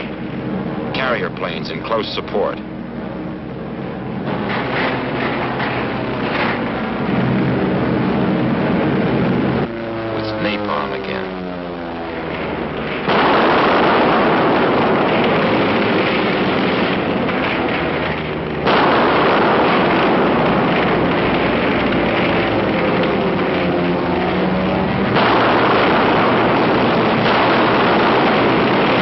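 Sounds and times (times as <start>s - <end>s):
faint aircraft engine drone: 0.0s - 29.0s
heavy explosions rumbling: 0.0s - 29.0s.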